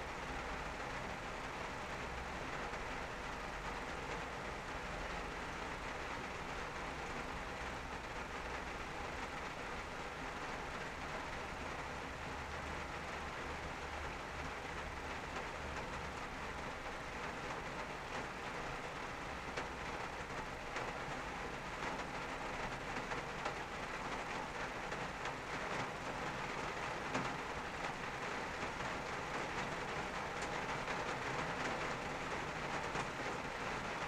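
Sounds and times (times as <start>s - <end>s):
rain on a car roof: 0.0s - 34.0s.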